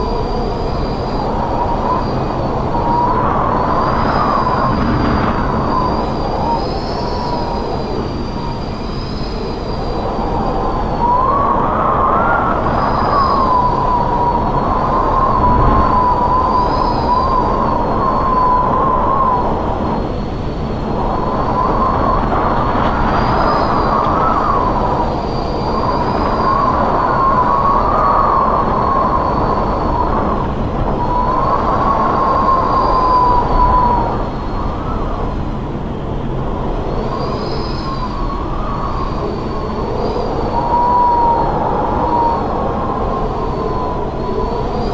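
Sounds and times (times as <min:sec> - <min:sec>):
strong wind howling: 0:00.0 - 0:44.9.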